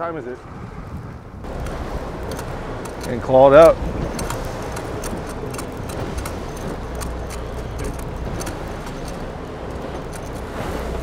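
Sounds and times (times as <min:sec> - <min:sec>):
fishing boat engine rumble: 0:00.0 - 0:11.0
light irregular clicks: 0:01.5 - 0:10.5.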